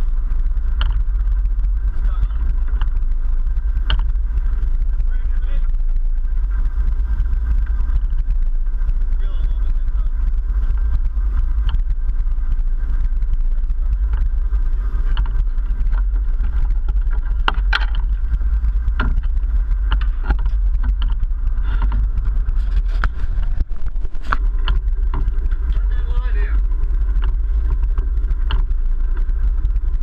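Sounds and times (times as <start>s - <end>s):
boat engines rumbling: 0.0s - 30.0s
wind on microphone: 0.0s - 30.0s.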